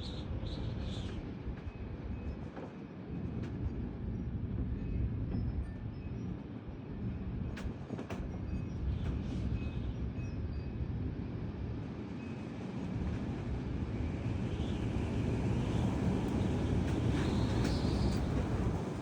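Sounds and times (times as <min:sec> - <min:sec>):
gusty wind blowing hard: 0:03.1 - 0:19.0.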